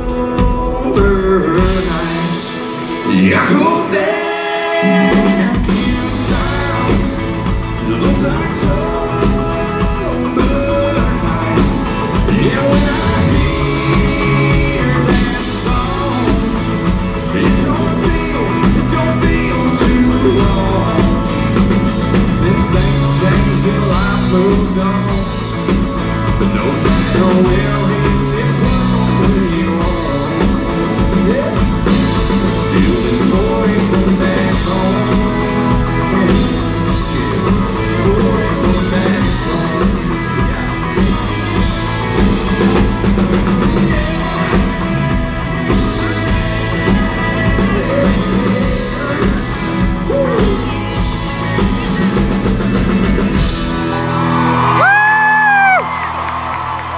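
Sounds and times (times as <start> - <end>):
live country rock band: 0.0 - 56.9.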